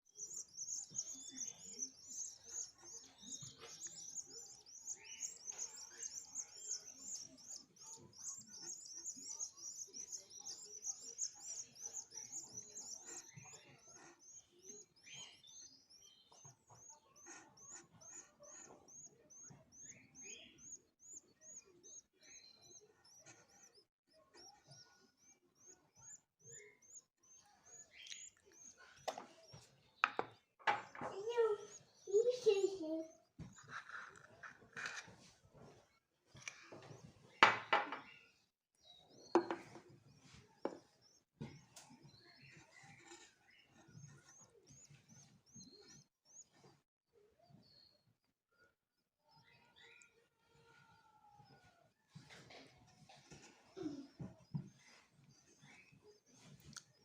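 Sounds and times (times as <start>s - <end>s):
canary chicks cheeping: 0.0s - 57.0s.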